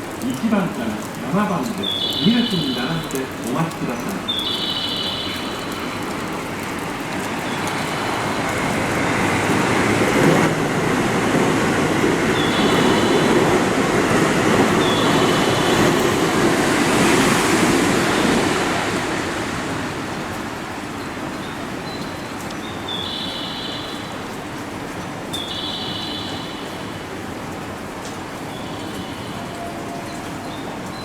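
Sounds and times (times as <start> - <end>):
train wheel and track noise: 0.0 - 31.0.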